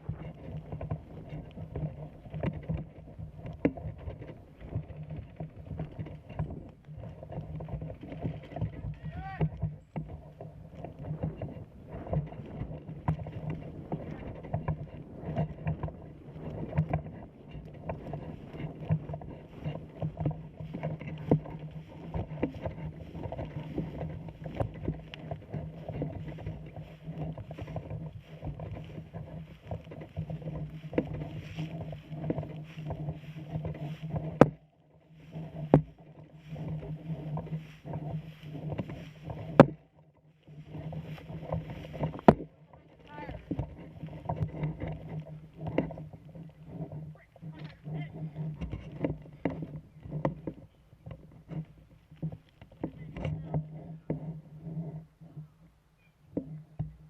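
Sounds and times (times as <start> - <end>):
rustling and rubbing noise: 0.0 - 57.0.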